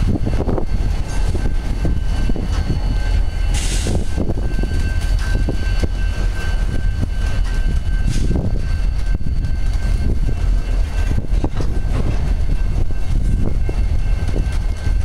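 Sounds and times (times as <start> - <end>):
freight train rumbling past: 0.0 - 15.0
wheels clacking on rails: 0.0 - 15.0.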